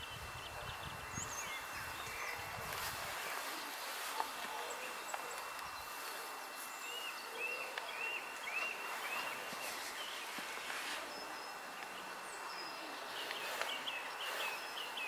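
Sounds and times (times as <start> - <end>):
songbird singing: 0.0 - 15.0
steady outdoor hiss: 0.0 - 15.0.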